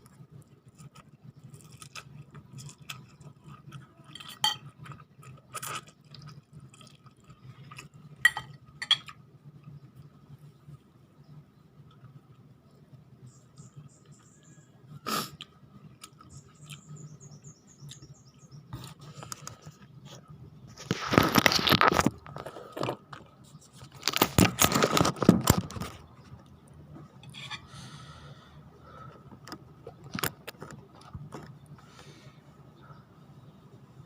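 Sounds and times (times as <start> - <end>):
noisy eating: 0.0 - 33.4.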